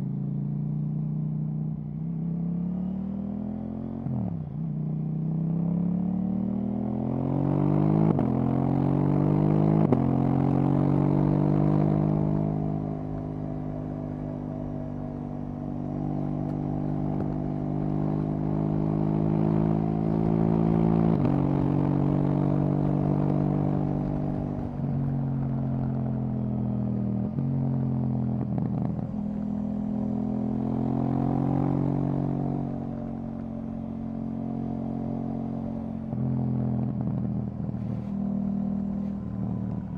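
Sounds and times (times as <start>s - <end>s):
motorcycle engine accelerating: 5.2s - 39.9s.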